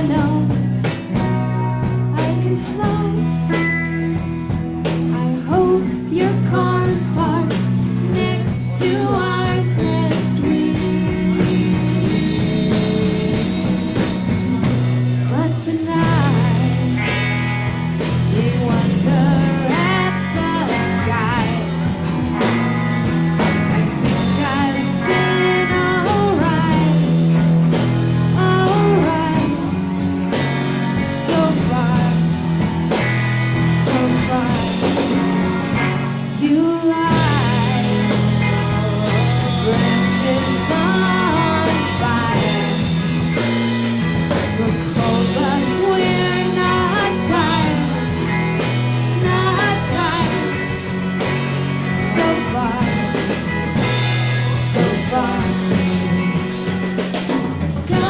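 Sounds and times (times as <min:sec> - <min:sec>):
person singing: 0:00.0 - 0:04.2, 0:05.0 - 0:22.5, 0:23.8 - 0:27.5, 0:28.2 - 0:43.2, 0:44.3 - 0:57.0, 0:57.8 - 0:58.0
bass guitar: 0:00.0 - 0:58.0
drum kit: 0:00.0 - 0:58.0
electric guitar: 0:00.0 - 0:58.0.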